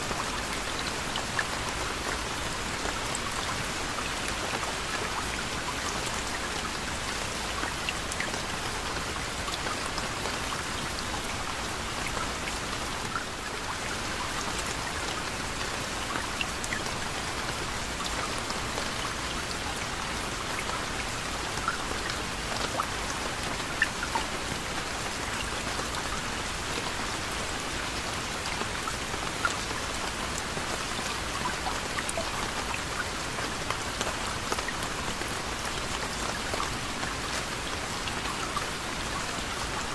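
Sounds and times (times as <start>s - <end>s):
gentle rain hiss: 0.0s - 39.9s
raindrops pattering on a surface: 0.0s - 39.9s.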